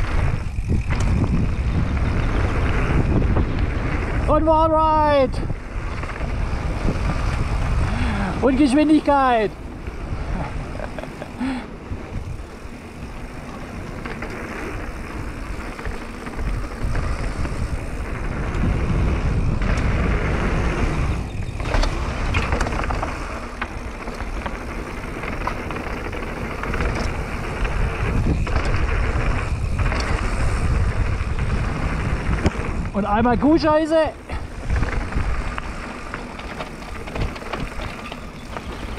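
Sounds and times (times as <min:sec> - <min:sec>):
bike rattling clicks: 0:00.0 - 0:38.9
wind rushing over microphone: 0:00.0 - 0:38.9
tyres rumbling over planks and dirt: 0:05.7 - 0:38.9.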